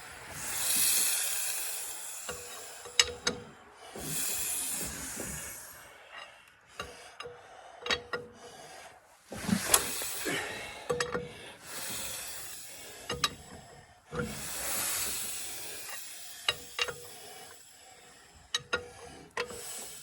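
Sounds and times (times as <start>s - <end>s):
engine hand-cranked hissing: 0.0s - 20.0s.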